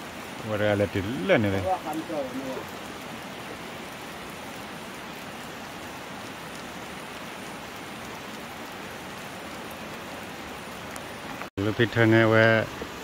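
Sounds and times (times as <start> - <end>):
rain falling on water and grass: 0.0 - 13.0.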